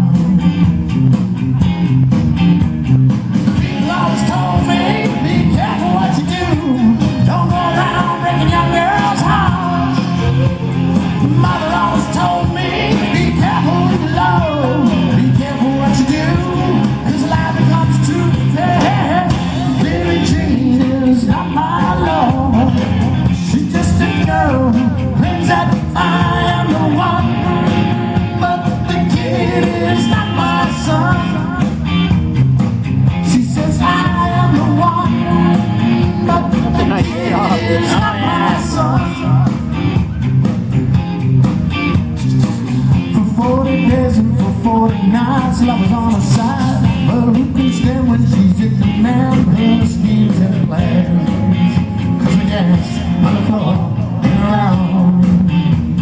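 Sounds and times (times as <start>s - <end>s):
live rock band playing: 0.0s - 56.0s
lead singer singing: 3.4s - 32.1s, 33.1s - 40.0s, 42.2s - 55.8s.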